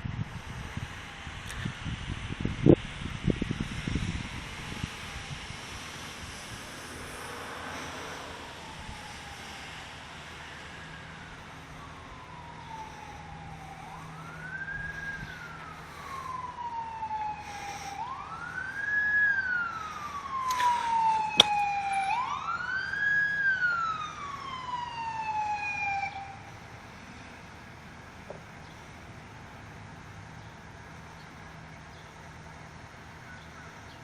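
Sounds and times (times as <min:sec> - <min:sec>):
fire engine siren wailing: 0:00.4 - 0:34.0.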